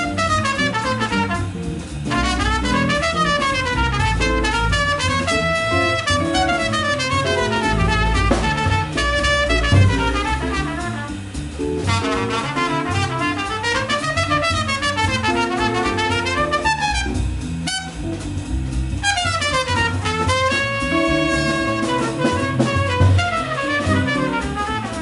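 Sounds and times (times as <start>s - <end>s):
trumpet lead line: 0.0s - 18.2s, 19.0s - 25.0s
jazz combo playing: 0.0s - 25.0s.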